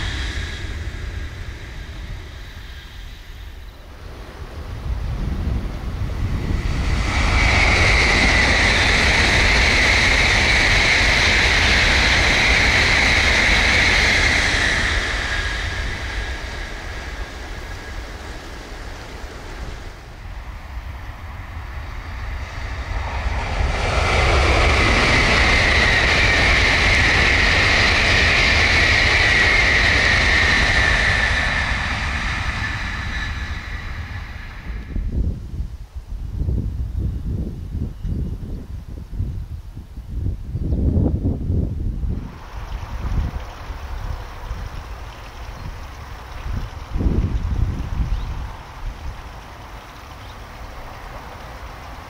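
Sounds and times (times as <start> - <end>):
high-speed trains passing: 0.0 - 52.0.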